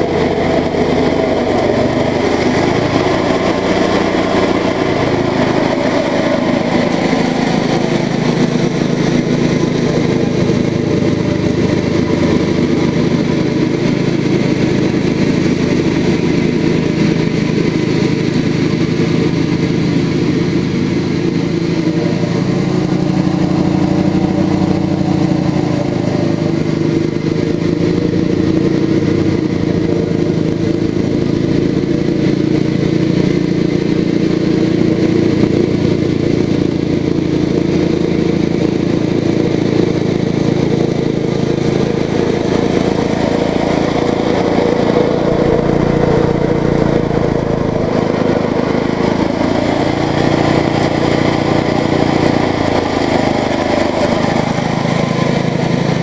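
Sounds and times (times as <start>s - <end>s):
riding mower engine cutting grass: 0.0s - 56.0s.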